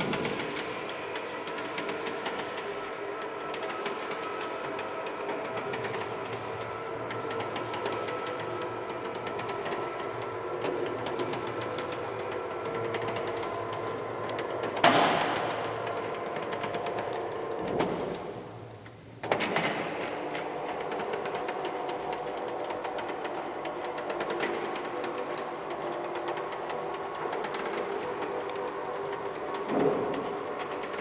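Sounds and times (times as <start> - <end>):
roller blind rattling whir: 0.0 - 31.0.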